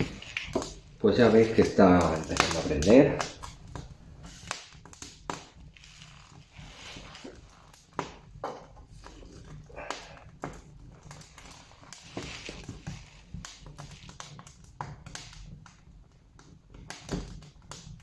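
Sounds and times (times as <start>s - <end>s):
fire hiss: 0.0s - 15.8s
fire crackling and popping: 0.0s - 18.0s.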